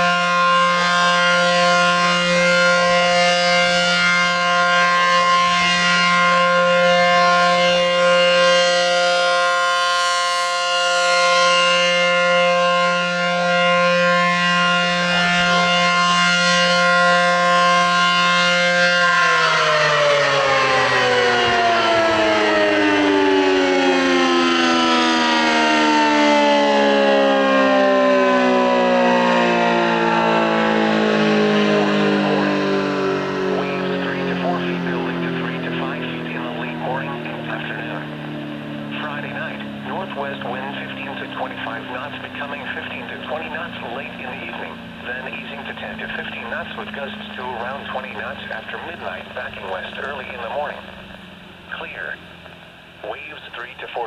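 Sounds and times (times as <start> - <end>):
outdoor warning siren: 0.0 - 54.0.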